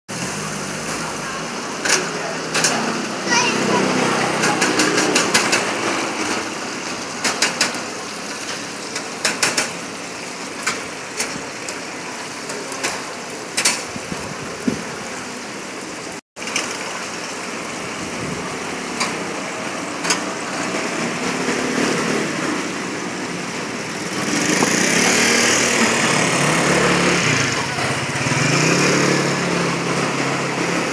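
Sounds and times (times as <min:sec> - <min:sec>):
oil sizzling in deep fryer: 0:00.1 - 0:30.9.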